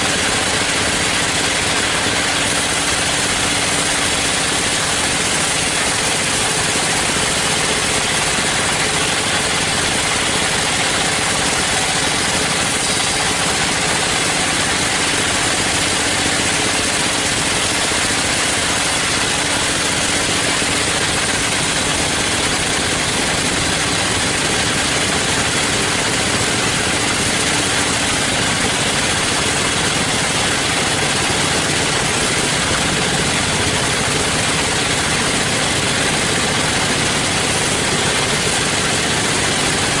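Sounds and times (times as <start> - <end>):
sawmill machinery running: 0.0 - 40.0.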